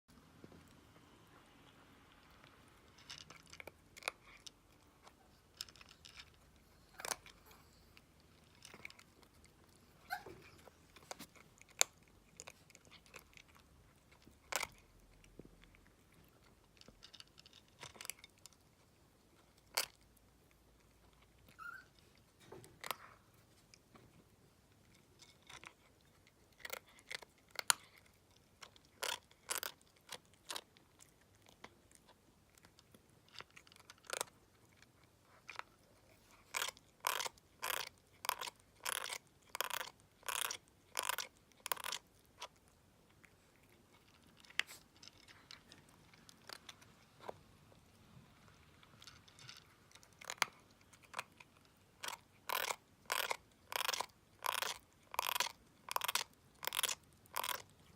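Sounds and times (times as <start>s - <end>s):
kitten chewing and crunching: 0.1s - 57.9s.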